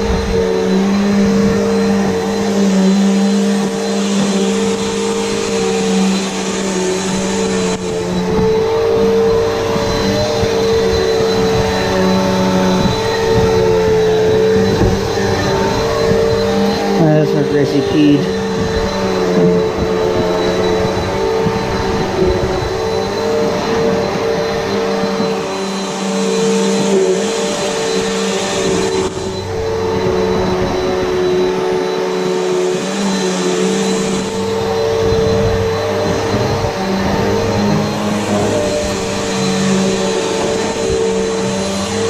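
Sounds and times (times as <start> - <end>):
vacuum cleaner running over carpet: 0.0 - 42.0.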